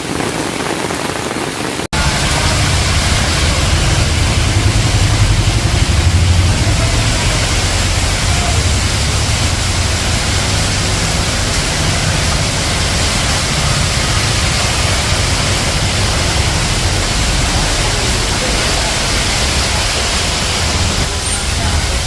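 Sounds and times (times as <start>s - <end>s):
heavy rain pouring: 0.0s - 22.0s
low rumble: 2.0s - 22.0s.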